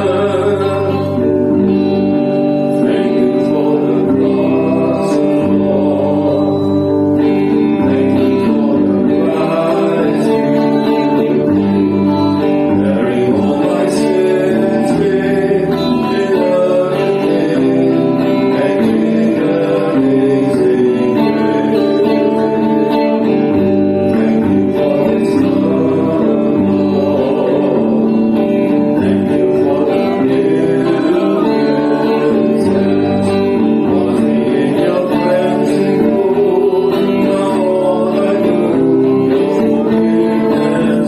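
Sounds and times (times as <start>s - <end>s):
song with guitar and singing: 0.0s - 41.0s.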